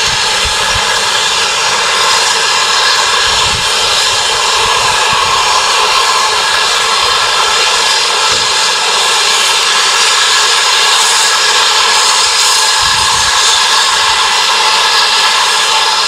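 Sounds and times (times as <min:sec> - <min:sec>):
steam hissing from safety valves: 0:00.0 - 0:16.0.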